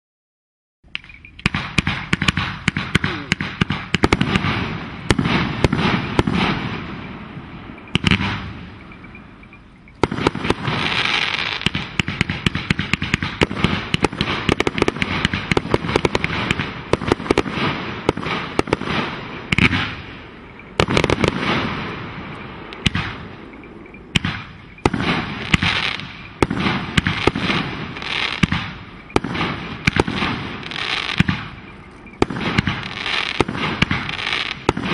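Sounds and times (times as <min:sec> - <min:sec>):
fireworks banging and crackling: 0:00.9 - 0:34.9.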